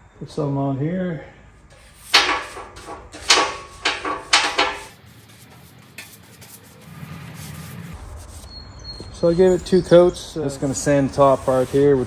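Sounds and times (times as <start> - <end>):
paintbrush strokes on sheet metal: 1.7 - 8.6, 9.2 - 12.0.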